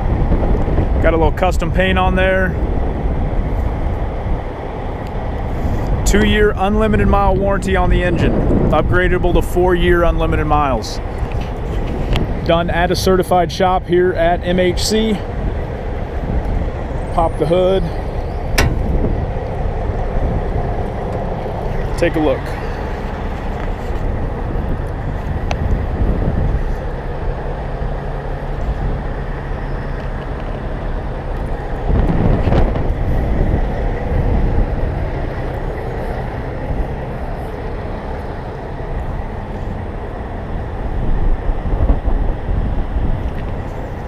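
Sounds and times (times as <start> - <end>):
engine rumbling: 0.0 - 44.0.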